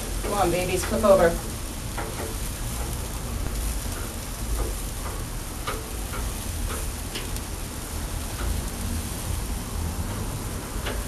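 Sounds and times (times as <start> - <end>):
light clicks on grill grate: 0.0 - 11.0
vegetables sizzling on a grill: 0.0 - 11.0.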